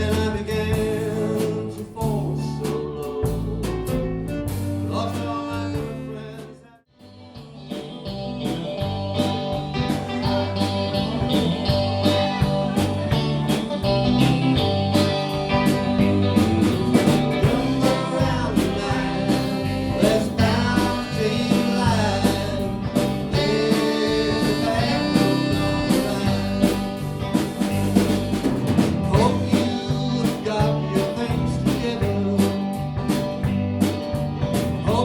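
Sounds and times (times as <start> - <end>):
live blues band playing: 0.0 - 35.0.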